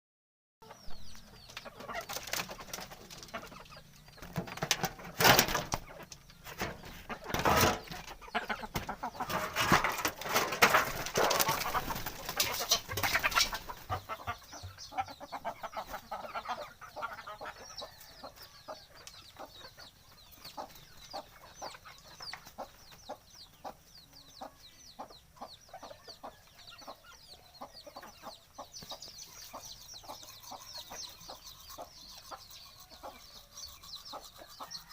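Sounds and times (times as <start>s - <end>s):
chickens clucking: 0.6s - 34.9s.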